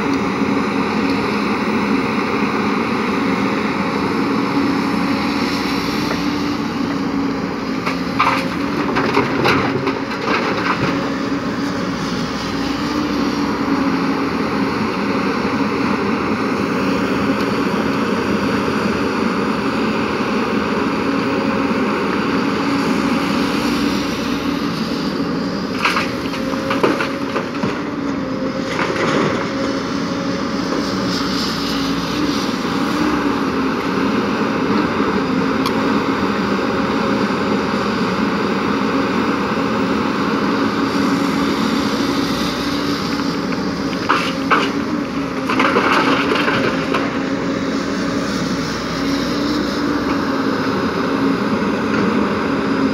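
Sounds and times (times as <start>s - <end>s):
excavator diesel engine droning: 0.0s - 52.9s.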